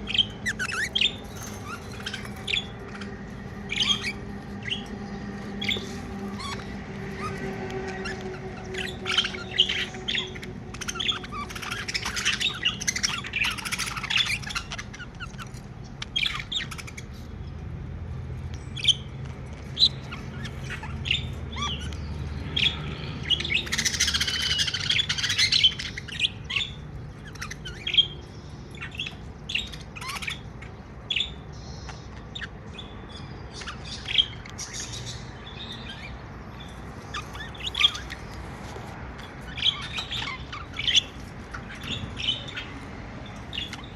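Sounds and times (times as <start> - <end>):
budgerigars chirping and chattering: 0.0 - 43.9.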